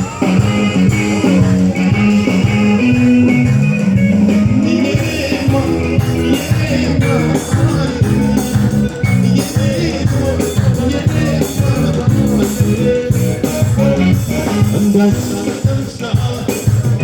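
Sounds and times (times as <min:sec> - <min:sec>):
live band playing pop: 0:00.0 - 0:17.0
rhythmic bass line: 0:00.0 - 0:17.0.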